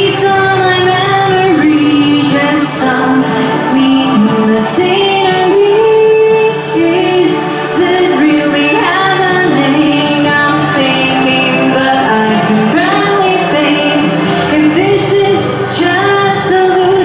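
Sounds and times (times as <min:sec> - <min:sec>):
backing music: 0:00.0 - 0:17.0
woman singing a pop ballad: 0:00.0 - 0:17.0.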